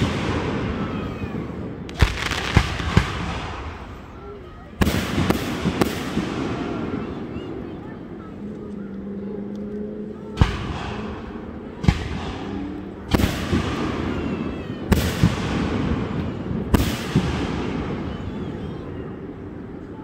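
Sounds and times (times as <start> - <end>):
rolling echo: 0.0 - 20.0.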